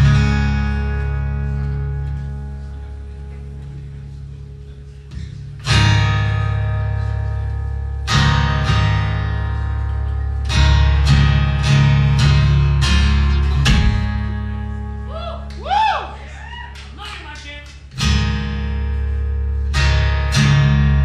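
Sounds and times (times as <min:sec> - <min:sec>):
acoustic guitar chords strummed: 0:00.0 - 0:15.1, 0:18.0 - 0:21.0.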